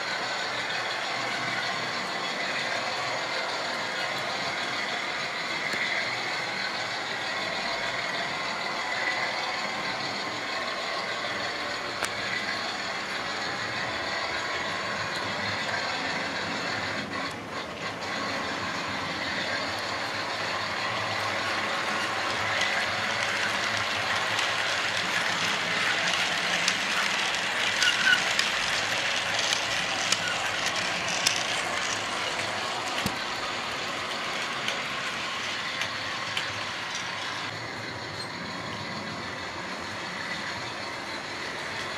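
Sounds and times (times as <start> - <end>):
model train motors whirring: 0.0 - 41.9
sharp clicks of passing train: 0.0 - 41.9
wheels clattering over track: 0.0 - 41.9.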